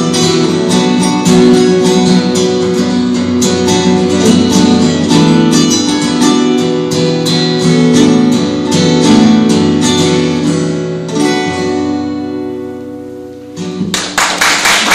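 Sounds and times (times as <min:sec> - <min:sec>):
acoustic guitars playing: 0:00.0 - 0:14.9.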